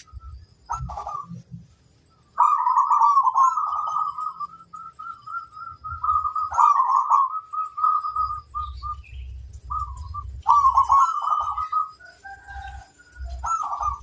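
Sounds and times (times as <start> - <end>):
dove cooing: 0.0 - 1.6, 2.3 - 14.0
small birds chirping: 0.0 - 14.0.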